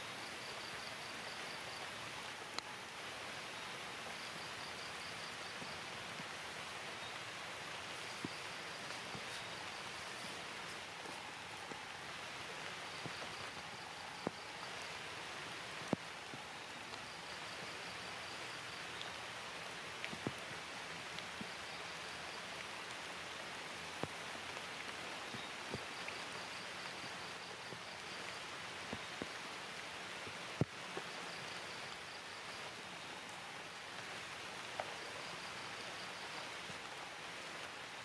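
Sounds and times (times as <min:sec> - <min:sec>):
rain on tree canopy: 0:00.0 - 0:38.0.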